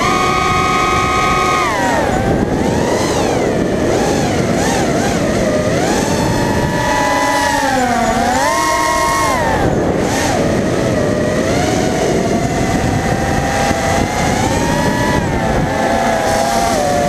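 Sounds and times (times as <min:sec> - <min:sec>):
drone motors whining: 0:00.0 - 0:17.0
wind rush: 0:00.0 - 0:17.0.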